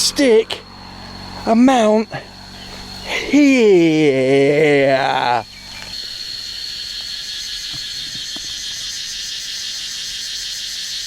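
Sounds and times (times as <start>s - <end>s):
shrill pulsing insect chorus: 0.0s - 11.0s.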